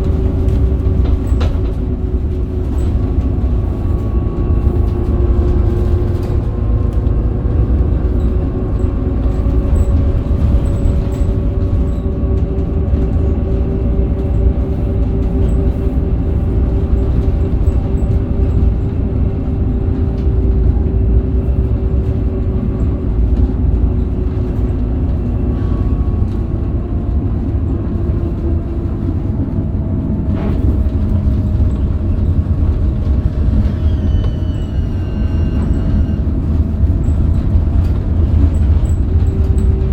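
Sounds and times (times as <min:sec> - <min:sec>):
bus engine rumbling on board: 0:00.0 - 0:39.9.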